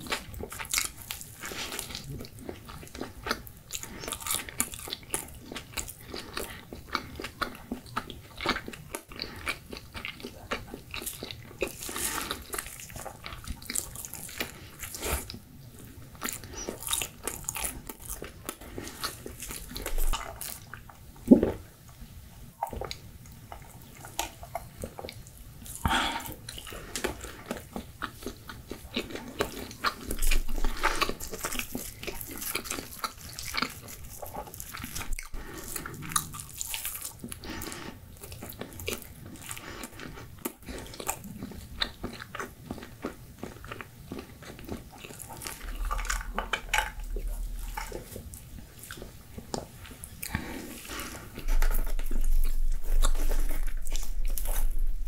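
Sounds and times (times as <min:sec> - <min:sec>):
pizza bitten and chewed: 0:00.0 - 0:55.0.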